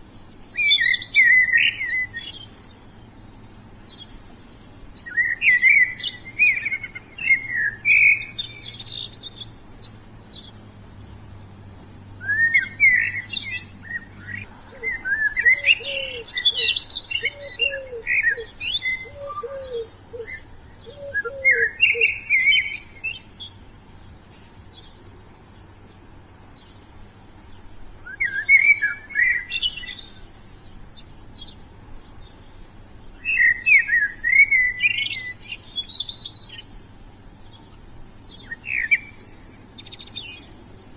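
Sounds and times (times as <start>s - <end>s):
low repeated bird call notes: 0.0s - 40.9s
songbird chirps and trills: 0.0s - 40.9s.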